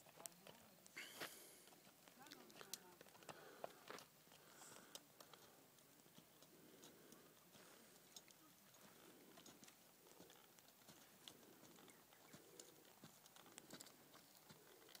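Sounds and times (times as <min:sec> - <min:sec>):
horse hoofbeats on dirt: 0:01.6 - 0:15.0.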